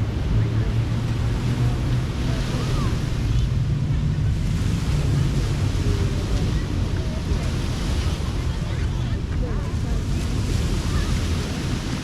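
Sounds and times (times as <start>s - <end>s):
steady low rumble: 0.0s - 11.9s
surf washing on a beach: 0.0s - 12.0s
wind buffeting microphone: 0.0s - 12.0s.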